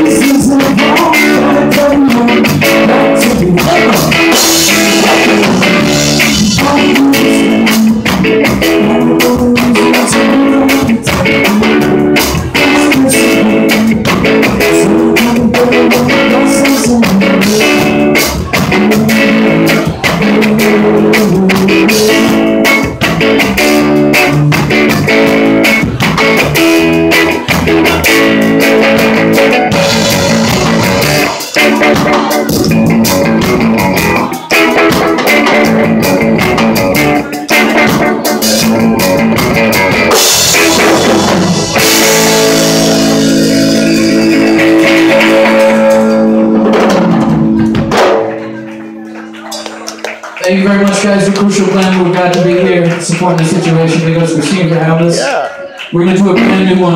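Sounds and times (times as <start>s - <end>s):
drum kit: 0.0s - 54.5s, 55.2s - 56.9s
electric guitar: 0.0s - 56.9s.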